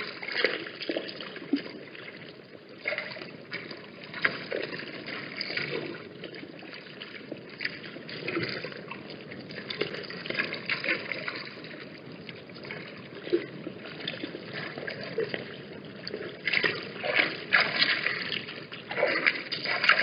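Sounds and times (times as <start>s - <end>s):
water splashes and knocks: 0.0s - 20.0s
wind buffeting microphone: 2.8s - 20.0s.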